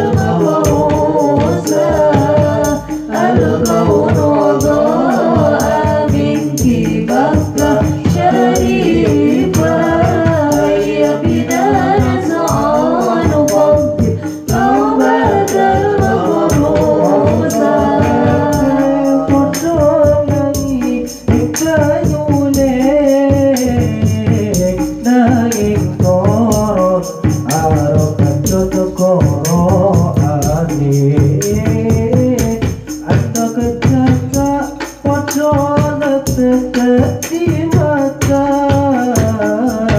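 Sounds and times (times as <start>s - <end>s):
devotional singing through microphone: 0.0s - 39.9s
frame drums played by hand: 0.0s - 39.9s.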